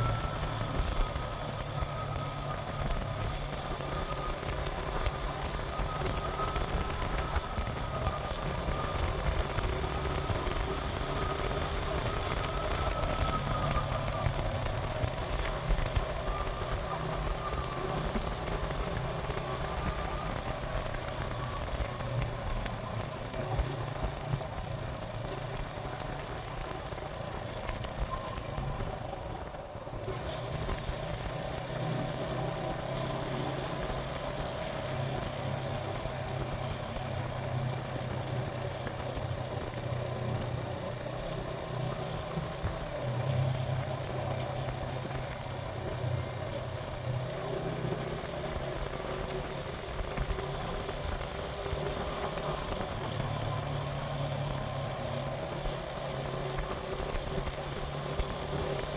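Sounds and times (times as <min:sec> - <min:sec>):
motorcycle engine drone: 0:00.0 - 0:58.9.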